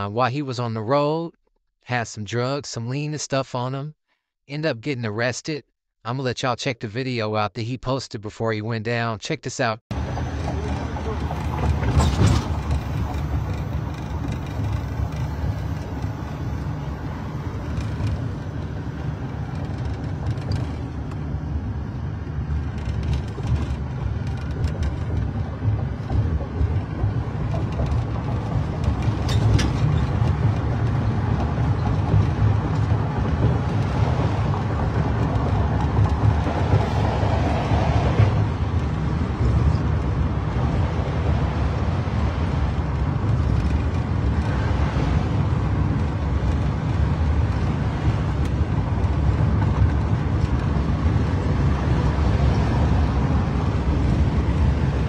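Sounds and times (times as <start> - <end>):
car engine and road noise: 9.9 - 55.0.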